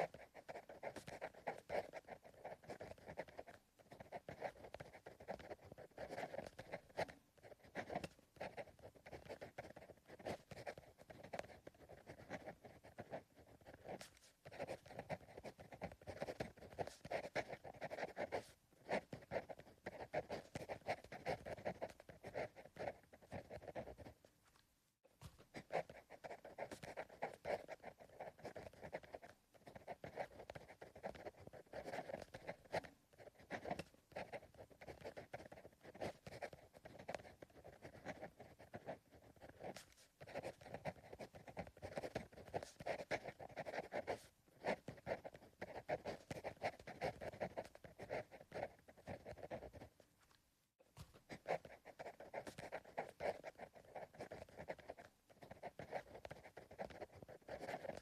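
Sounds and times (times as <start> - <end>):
pencil writing on paper: 0.0 - 24.3, 25.2 - 50.0, 50.8 - 58.0.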